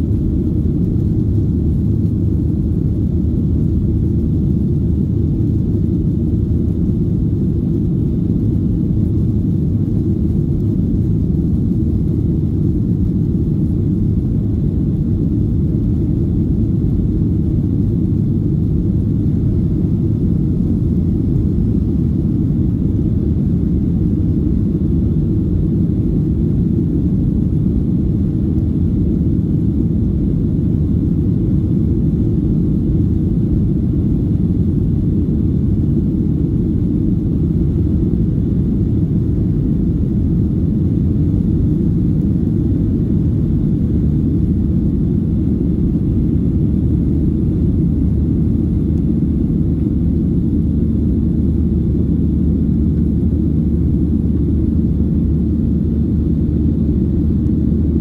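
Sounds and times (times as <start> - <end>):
jet engine noise inside cabin: 0.0 - 58.0.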